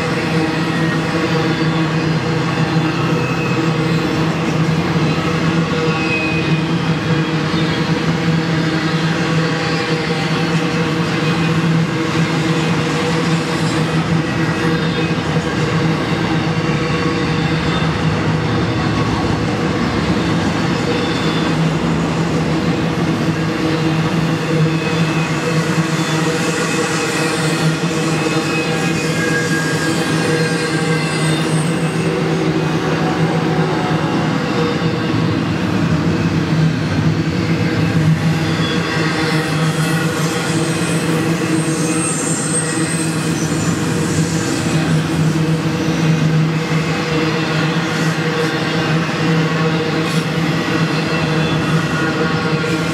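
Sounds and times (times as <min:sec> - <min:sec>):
faint high squeal: 0:00.0 - 0:35.5, 0:37.8 - 0:52.9
steel wheels on rail: 0:00.0 - 0:52.9.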